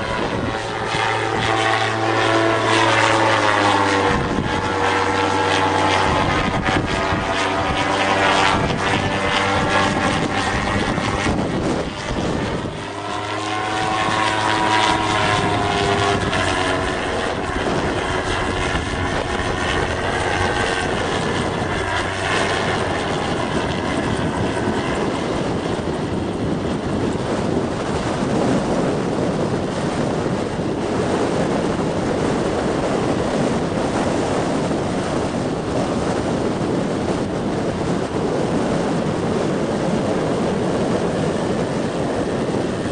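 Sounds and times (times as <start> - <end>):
gyrocopter engine and propeller: 0.0 - 42.9
wind noise: 0.0 - 42.9.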